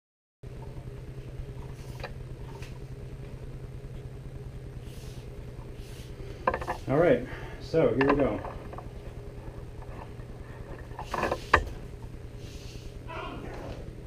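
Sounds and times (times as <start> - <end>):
low hum: 0.4 - 14.0.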